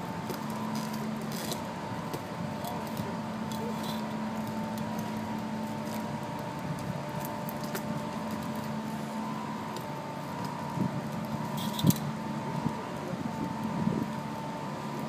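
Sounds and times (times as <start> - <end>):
machine hum with two tones: 0.0 - 15.0.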